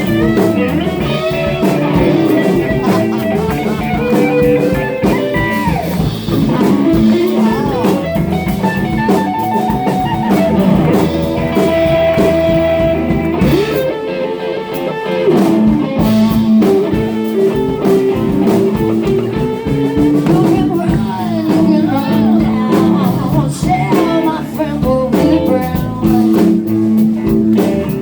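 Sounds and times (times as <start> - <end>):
bass guitar: 0.0 - 28.0
drum kit: 0.0 - 28.0
electric guitar soloing: 0.0 - 28.0.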